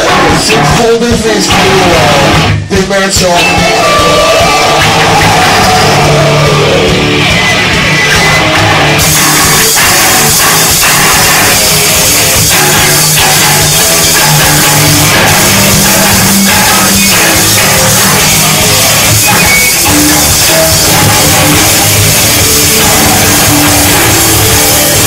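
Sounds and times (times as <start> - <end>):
drum kit hits: 0.0 - 25.0
electric bass and guitars: 0.0 - 25.0.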